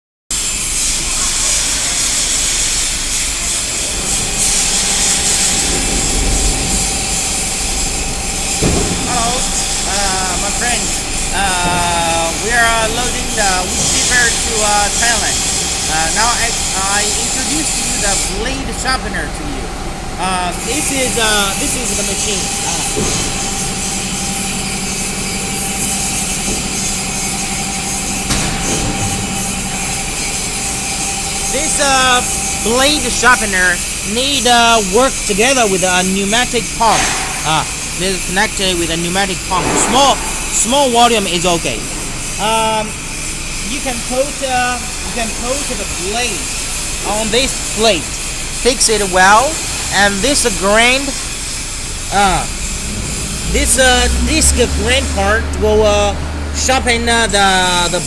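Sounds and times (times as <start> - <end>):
machinery running: 0.3 - 58.0
loud hiss with low rumble: 0.4 - 58.0.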